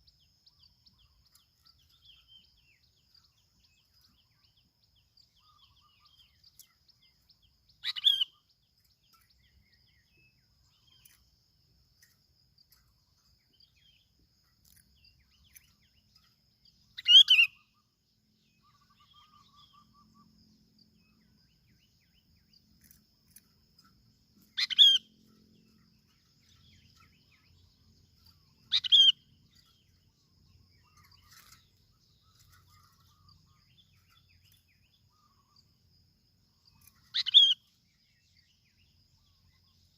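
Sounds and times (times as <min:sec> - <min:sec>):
bird calls: 0:00.0 - 0:11.4, 0:12.0 - 0:39.9.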